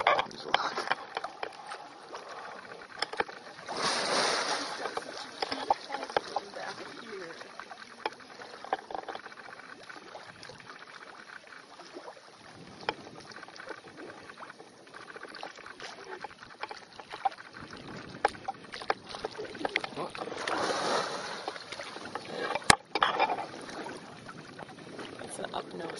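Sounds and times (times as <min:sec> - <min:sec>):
water sloshing and splashing: 0:00.0 - 0:25.9.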